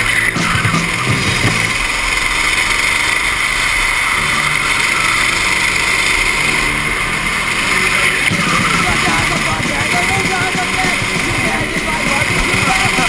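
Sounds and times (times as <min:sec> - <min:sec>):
go-kart engine droning: 0:00.0 - 0:13.0.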